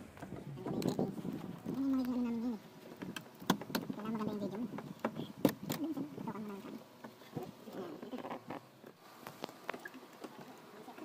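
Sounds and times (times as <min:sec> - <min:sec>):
faint rustle: 0:00.0 - 0:11.0.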